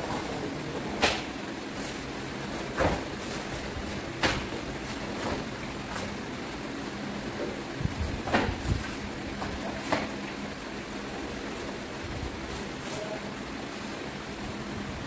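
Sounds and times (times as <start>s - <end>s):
steady hiss and hum: 0.0s - 15.0s.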